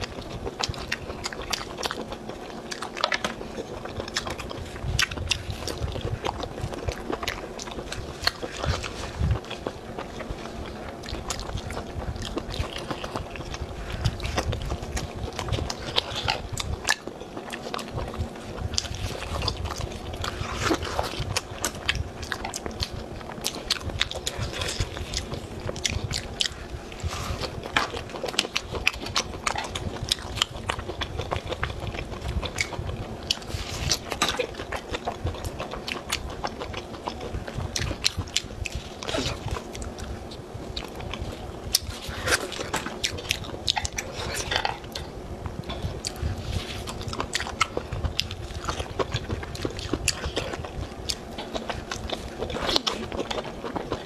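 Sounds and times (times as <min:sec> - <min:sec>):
chewing and biting meat: 0:00.0 - 0:54.0.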